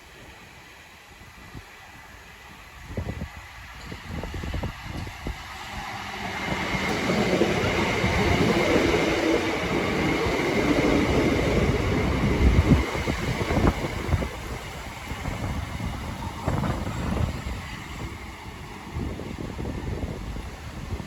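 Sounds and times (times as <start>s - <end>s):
electric train approaching: 0.0s - 21.0s
steady train whine: 0.0s - 21.0s
wind buffeting microphone: 1.2s - 21.0s.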